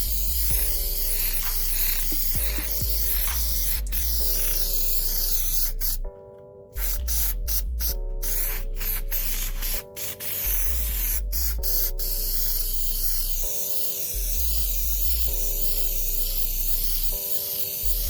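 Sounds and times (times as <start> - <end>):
aerosol can spraying: 0.0 - 6.2, 6.8 - 18.0
background music: 0.0 - 18.0.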